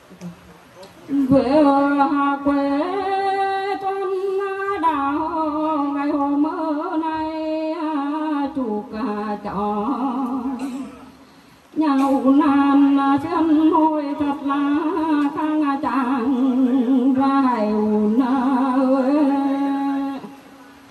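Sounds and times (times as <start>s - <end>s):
woman singing unaccompanied: 1.1s - 10.9s, 11.8s - 20.5s.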